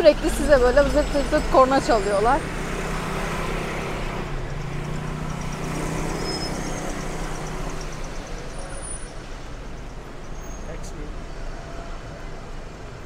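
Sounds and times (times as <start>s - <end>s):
cars passing with rumble: 0.0s - 13.0s.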